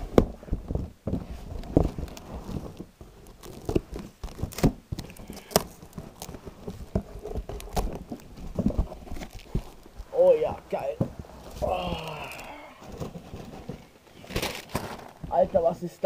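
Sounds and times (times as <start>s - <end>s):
cardboard rustling and tearing: 0.0s - 15.6s.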